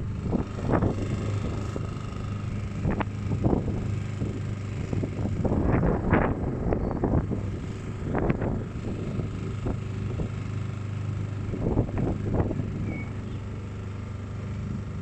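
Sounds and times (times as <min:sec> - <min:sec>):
wind buffeting microphone: 0:00.0 - 0:10.6, 0:11.2 - 0:13.2
motor boat engine droning: 0:00.0 - 0:15.0.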